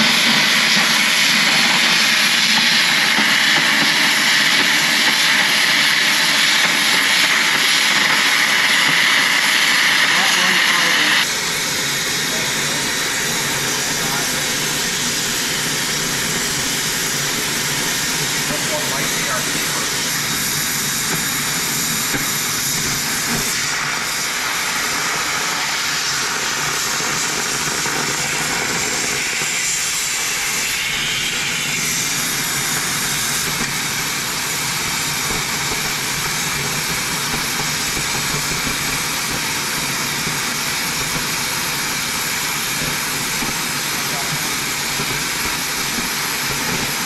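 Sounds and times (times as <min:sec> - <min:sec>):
cutting torch hissing: 0:00.0 - 0:47.0.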